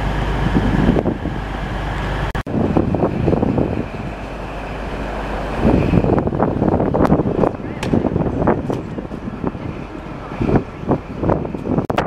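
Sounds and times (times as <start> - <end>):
urban traffic noise: 0.0 - 12.0
vehicle running: 0.0 - 12.0.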